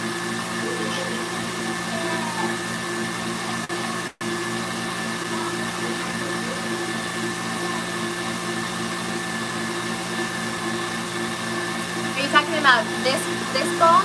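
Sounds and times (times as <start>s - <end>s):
stand mixer whisking: 0.0s - 14.0s.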